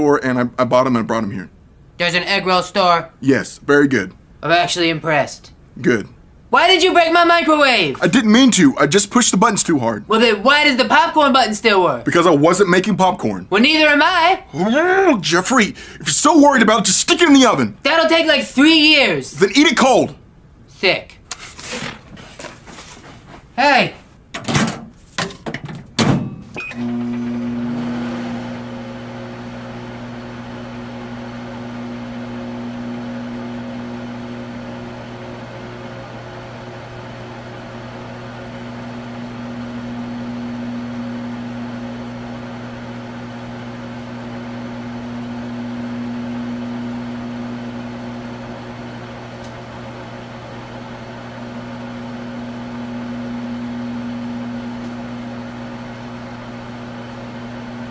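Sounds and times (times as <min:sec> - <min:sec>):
microwave oven humming: 0:00.0 - 0:21.0, 0:25.8 - 0:57.9.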